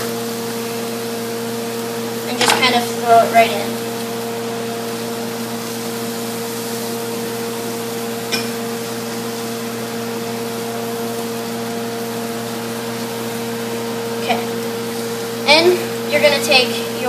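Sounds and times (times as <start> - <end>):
kitchen fan motor humming: 0.0 - 17.0.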